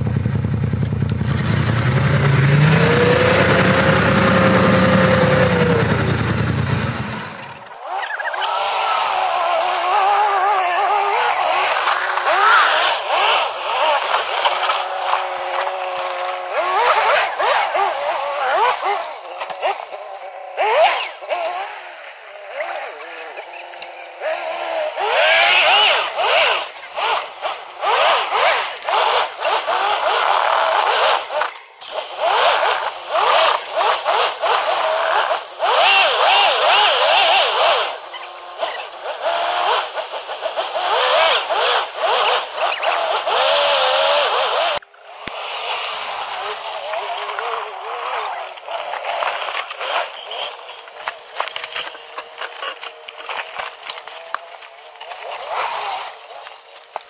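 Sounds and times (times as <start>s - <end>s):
off-road engine revving: 0.0s - 57.0s.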